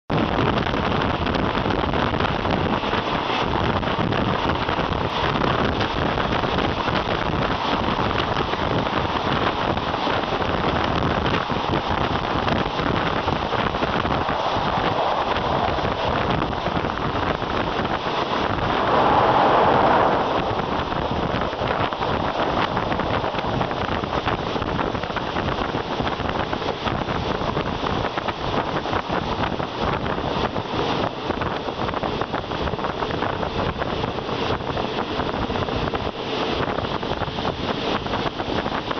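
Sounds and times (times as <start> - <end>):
wind rushing over microphone: 0.1 - 38.9
train running on rails: 0.3 - 38.0.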